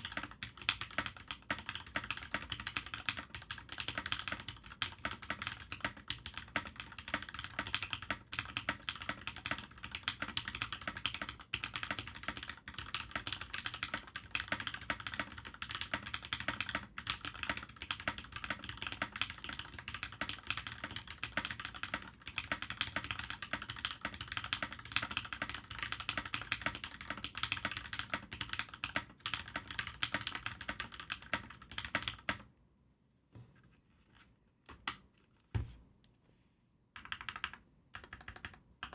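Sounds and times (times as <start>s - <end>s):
mechanical keyboard typing: 0.0s - 32.5s, 37.0s - 38.9s.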